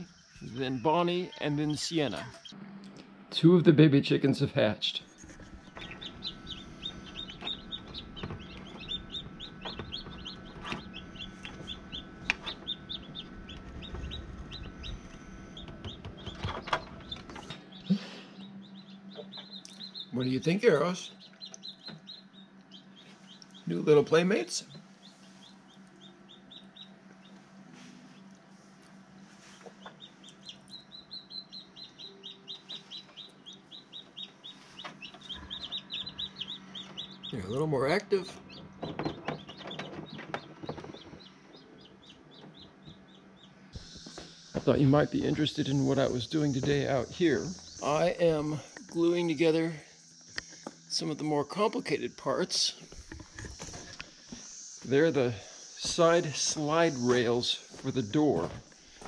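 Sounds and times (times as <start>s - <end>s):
chick peeping: 0.0s - 2.6s, 5.1s - 59.0s
low steady hum: 0.0s - 59.0s.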